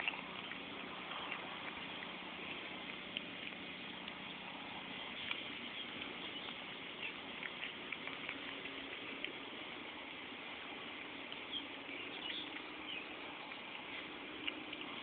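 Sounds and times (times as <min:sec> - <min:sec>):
cat chewing crunching clicks: 0:00.0 - 0:15.0
steady background hiss: 0:00.0 - 0:15.0.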